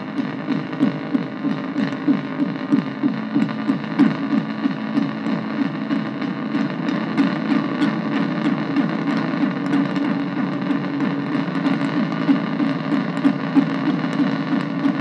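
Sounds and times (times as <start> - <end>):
analog synthesizer noise drone: 0.0 - 15.0.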